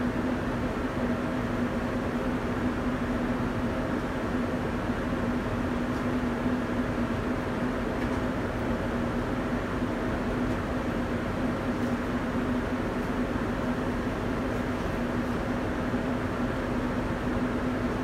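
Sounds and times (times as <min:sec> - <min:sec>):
airliner cabin engine and airflow rush: 0:00.0 - 0:18.0
constant low hum: 0:00.0 - 0:18.0.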